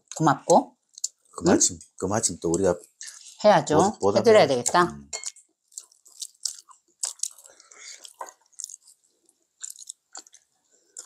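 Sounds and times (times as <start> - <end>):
people chewing food: 0.0 - 11.0.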